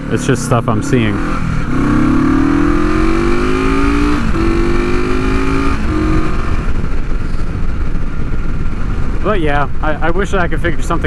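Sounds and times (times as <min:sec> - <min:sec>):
low wind rumble: 0:00.0 - 0:11.0
motorcycle engine accelerating: 0:00.0 - 0:11.0.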